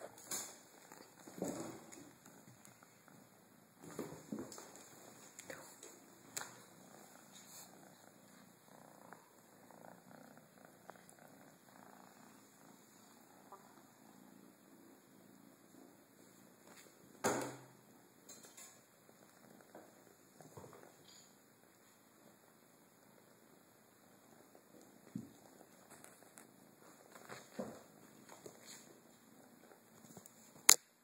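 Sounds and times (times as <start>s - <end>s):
kitten purring: 0.0s - 30.8s.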